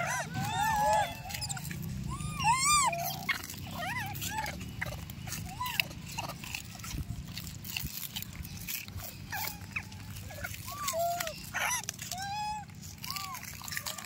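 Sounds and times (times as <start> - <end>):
crunching of food: 0.0 - 14.0
monkeys squeaky calls: 0.0 - 14.0.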